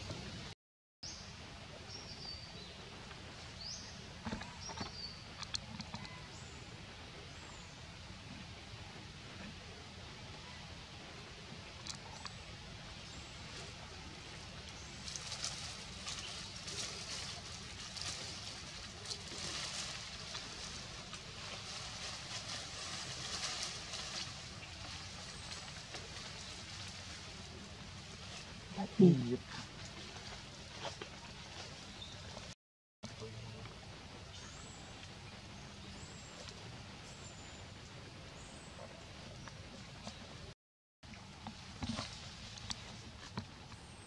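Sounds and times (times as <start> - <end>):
low forest ambience: 0.0 - 44.0.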